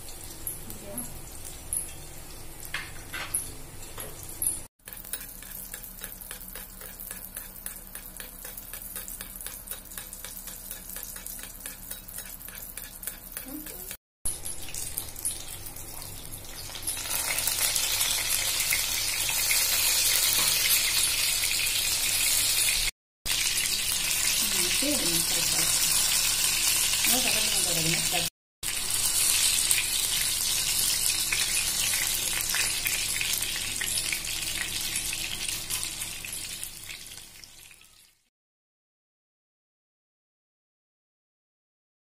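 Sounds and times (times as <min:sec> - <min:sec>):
fish sizzling in hot oil: 0:00.0 - 0:38.3.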